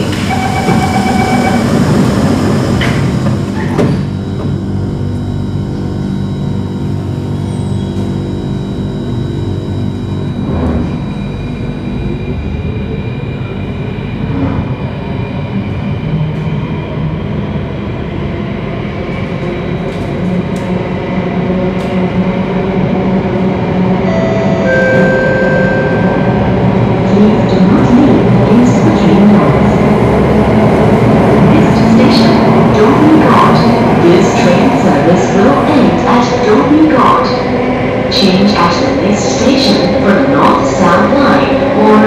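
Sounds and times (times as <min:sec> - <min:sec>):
train hum: 0:00.0 - 0:42.0
train running noise: 0:00.0 - 0:42.0.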